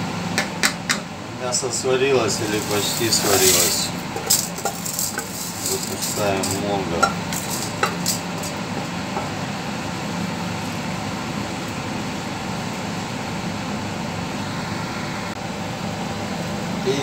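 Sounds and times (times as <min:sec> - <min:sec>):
low mechanical machinery hum: 0:00.0 - 0:17.0.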